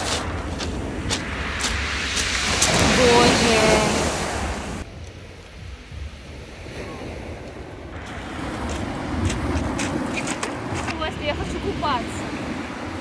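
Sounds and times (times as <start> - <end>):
sea waves washing ashore: 0.0 - 13.0
wind rumbling on microphone: 0.0 - 13.0.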